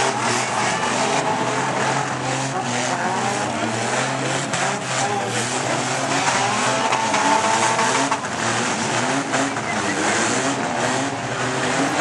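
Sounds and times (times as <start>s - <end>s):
car engines revving: 0.0s - 12.0s
tires spinning and squealing: 0.0s - 12.0s.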